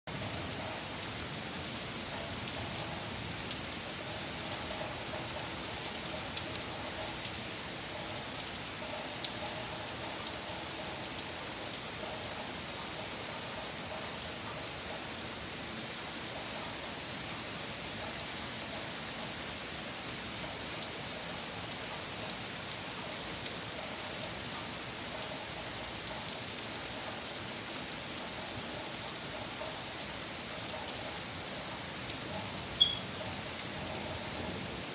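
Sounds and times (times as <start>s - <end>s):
raindrops ticking close by: 0.1s - 34.9s.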